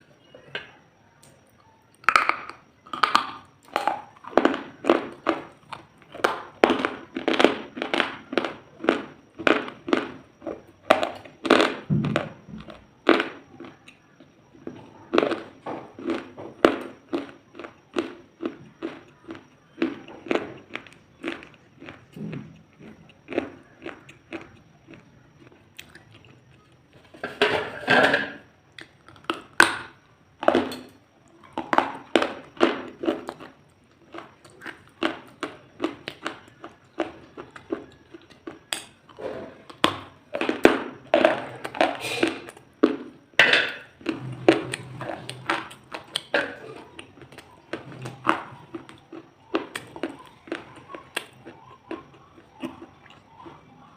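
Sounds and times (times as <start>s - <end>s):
crunching crisp food: 0.1s - 53.9s.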